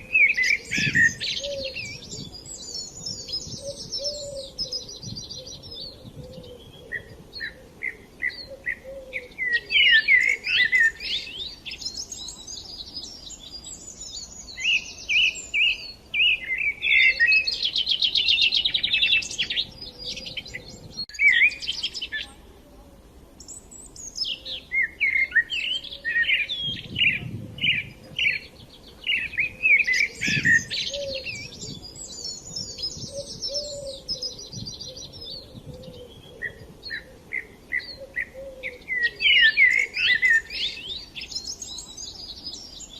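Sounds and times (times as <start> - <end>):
songbirds chirping and singing: 0.0 - 22.5, 23.3 - 42.9.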